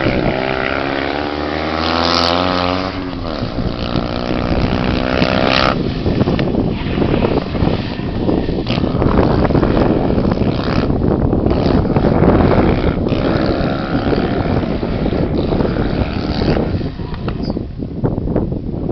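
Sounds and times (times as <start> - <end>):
small car engine under load: 0.0 - 18.0
wind noise on microphone: 0.0 - 18.9.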